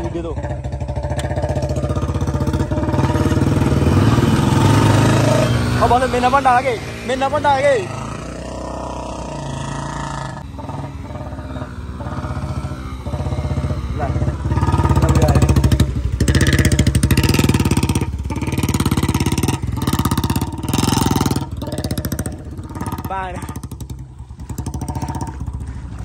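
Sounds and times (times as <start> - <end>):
motorcycle engine revving hard: 0.0 - 26.0
second motorcycle engine running: 0.0 - 26.0.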